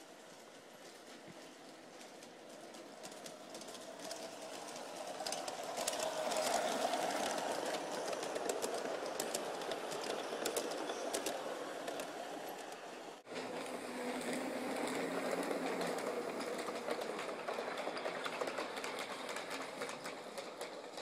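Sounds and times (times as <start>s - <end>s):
wheels clicking on track: 0.0s - 21.0s
model train motor whirring: 2.0s - 21.0s.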